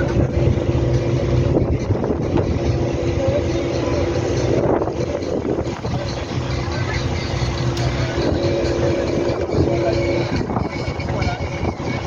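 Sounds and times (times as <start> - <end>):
boat engine drone: 0.0 - 12.0
water noise: 0.0 - 12.0
wind: 0.0 - 12.0.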